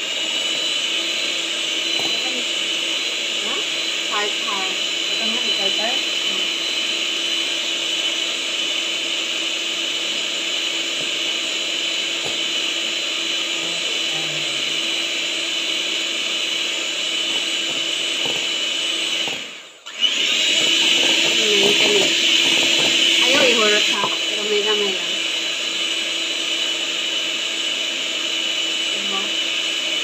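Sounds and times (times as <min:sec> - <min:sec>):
electric hand mixer whine: 0:00.0 - 0:30.0.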